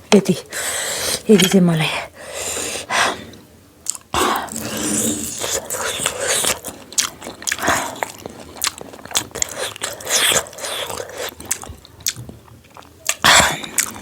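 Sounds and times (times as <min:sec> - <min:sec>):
person chewing food: 0:02.8 - 0:14.0.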